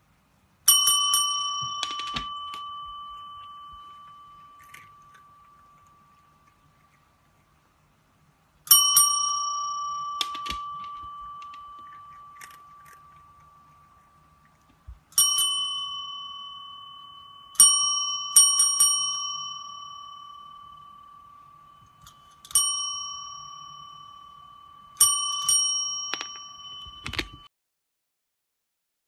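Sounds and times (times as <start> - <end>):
service bell dinging: 0.7 - 6.4, 8.7 - 14.3, 15.2 - 27.5.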